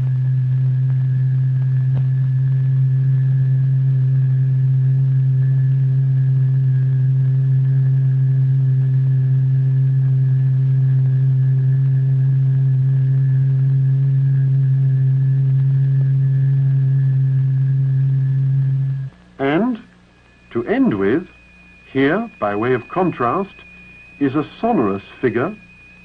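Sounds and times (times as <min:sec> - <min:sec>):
steady low tone: 0:00.0 - 0:26.0.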